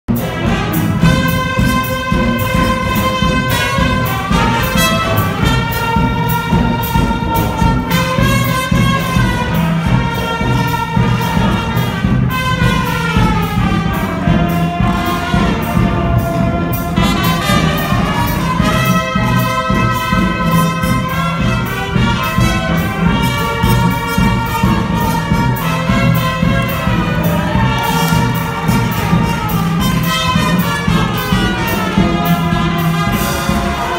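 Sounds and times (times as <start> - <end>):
brass playing slow held notes: 0.1 - 33.9.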